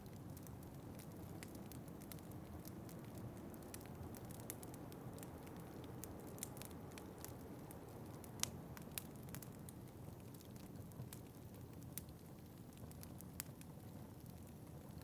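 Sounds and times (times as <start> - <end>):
fireplace fire crackling and popping: 0.0 - 15.0.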